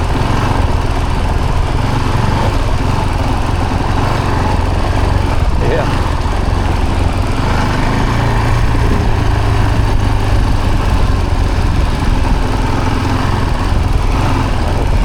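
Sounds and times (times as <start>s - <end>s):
road and tyre noise: 0.0s - 15.0s
vehicle engine humming: 0.0s - 15.0s.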